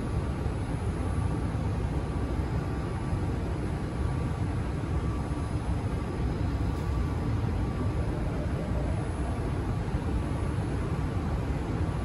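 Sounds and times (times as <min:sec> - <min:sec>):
train car hum and rush: 0:00.0 - 0:12.0.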